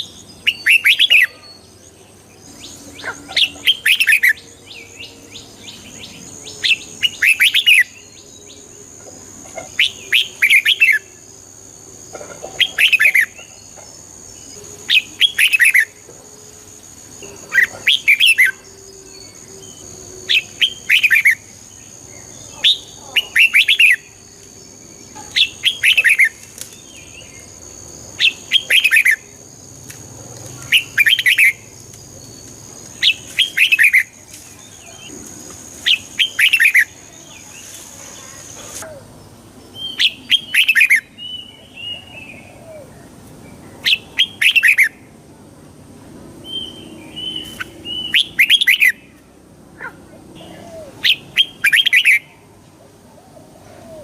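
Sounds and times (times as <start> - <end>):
bird singing warbled phrases: 0.0 - 8.9, 9.5 - 11.2, 12.4 - 16.0, 17.2 - 29.5, 30.3 - 35.1, 35.8 - 45.0, 46.4 - 49.2, 49.8 - 53.0.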